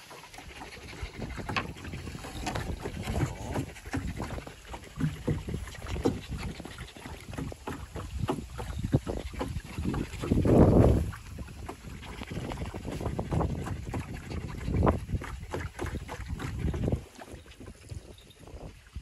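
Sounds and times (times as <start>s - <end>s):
water splashing against hull: 0.0s - 19.0s
wind rumbling on microphone: 0.0s - 19.0s.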